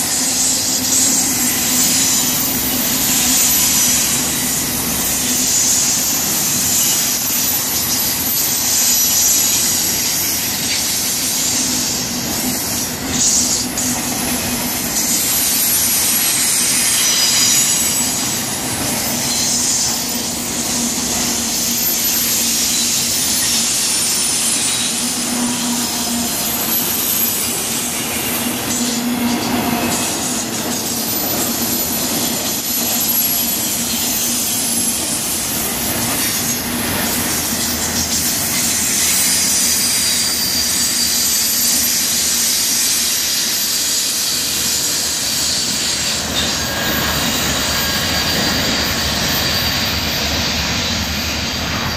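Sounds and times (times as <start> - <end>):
train wheels rushing on rail: 0.0 - 51.9.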